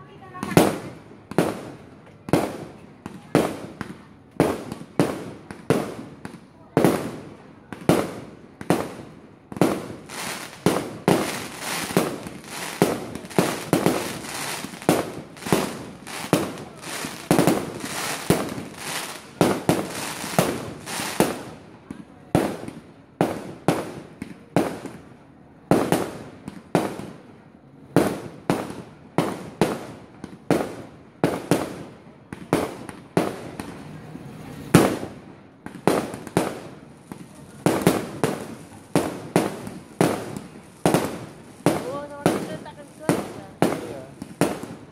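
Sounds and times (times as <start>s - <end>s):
fireworks bangs echoing: 0.2s - 25.0s, 25.7s - 27.3s, 27.9s - 33.9s, 34.7s - 44.9s.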